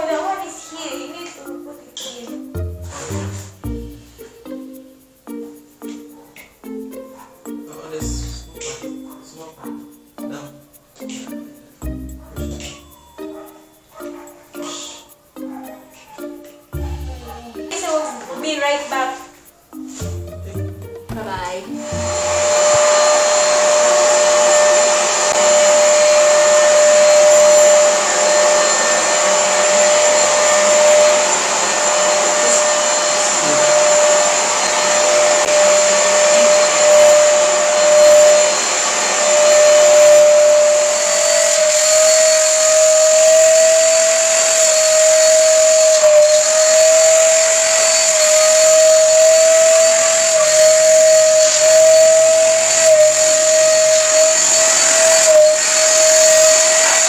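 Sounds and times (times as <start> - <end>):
vacuum cleaner whining: 0.0 - 4.6, 12.2 - 20.5, 21.1 - 57.0.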